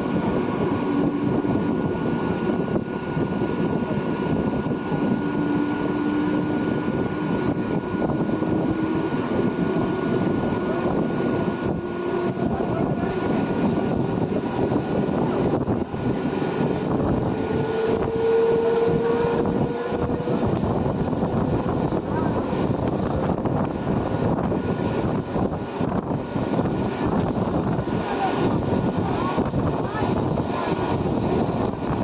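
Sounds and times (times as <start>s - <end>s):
train wheels rumbling: 0.0s - 32.0s.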